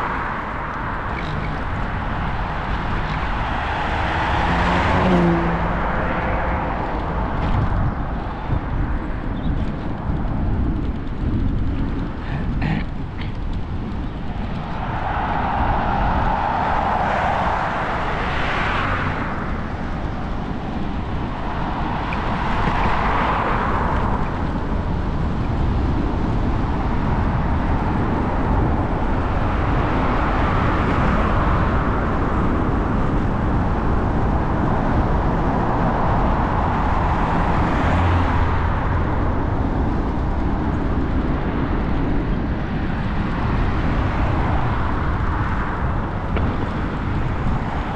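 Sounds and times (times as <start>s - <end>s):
road traffic passing: 0.0s - 47.9s
wind rumble on microphone: 0.0s - 47.9s.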